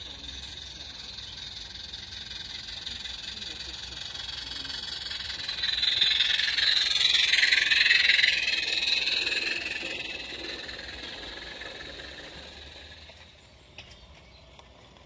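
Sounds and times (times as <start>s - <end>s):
steam locomotive chuffing past: 0.0s - 13.8s.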